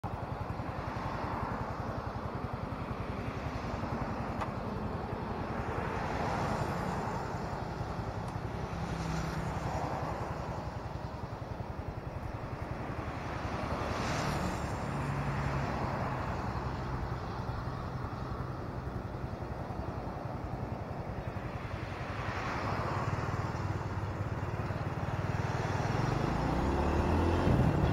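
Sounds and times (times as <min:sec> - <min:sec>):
road traffic passing: 0:00.0 - 0:27.9.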